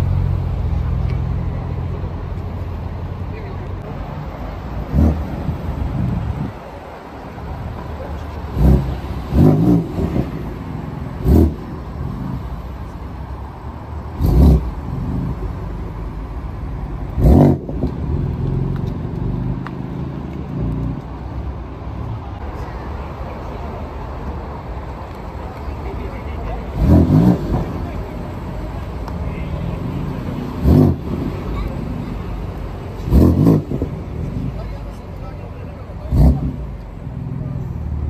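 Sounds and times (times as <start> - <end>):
car engines idling: 0.0 - 38.0.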